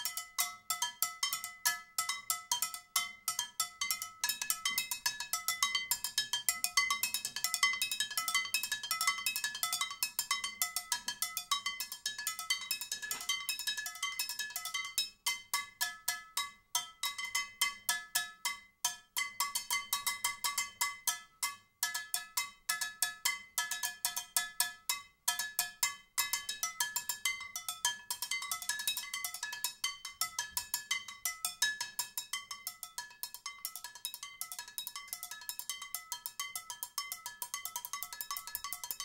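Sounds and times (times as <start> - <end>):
skillet struck as percussion: 0.0 - 39.0.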